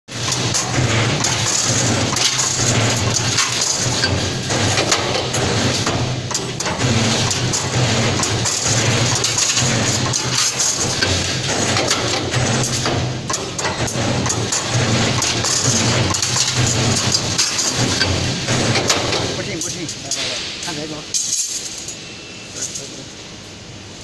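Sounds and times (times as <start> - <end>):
machine motor hum: 0.1 - 21.0
wire clacking and knocking: 0.2 - 20.3.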